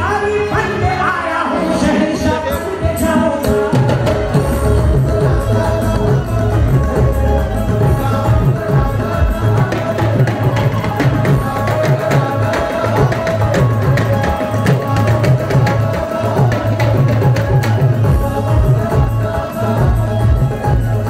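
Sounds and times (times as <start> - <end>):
harmonium sustained notes: 0.0 - 21.0
tabla beat: 0.0 - 21.0.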